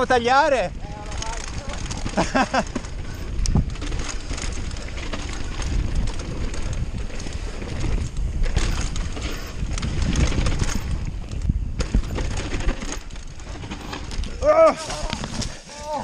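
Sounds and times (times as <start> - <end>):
bike rattling and knocking: 0.0 - 16.0
tyres rumbling over gravel: 0.2 - 16.0.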